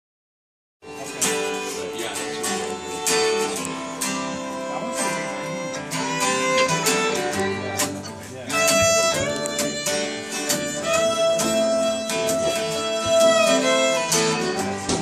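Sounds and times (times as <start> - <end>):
fiddle: 0.8 - 15.0
strummed acoustic guitars: 0.8 - 15.0.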